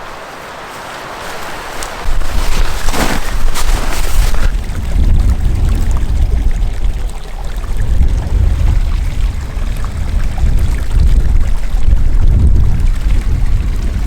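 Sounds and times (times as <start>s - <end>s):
wind buffeting microphone: 2.0s - 14.0s.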